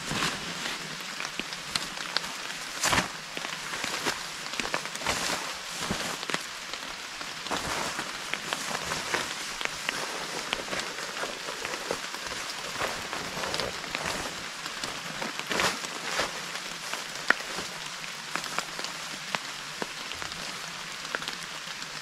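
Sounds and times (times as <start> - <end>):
rain poncho rustling: 0.0 - 21.9
rain falling on forest: 0.0 - 22.0.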